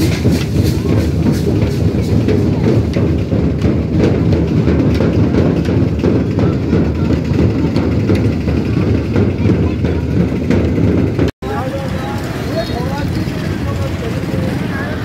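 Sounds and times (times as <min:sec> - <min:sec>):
crowd noise: 0:00.0 - 0:15.0
loud drumming: 0:00.0 - 0:15.0.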